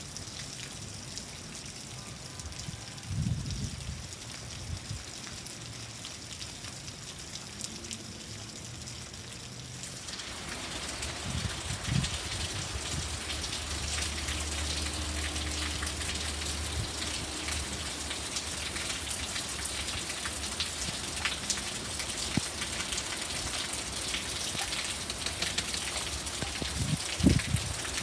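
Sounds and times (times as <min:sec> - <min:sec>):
hard rain falling: 0:00.0 - 0:28.0.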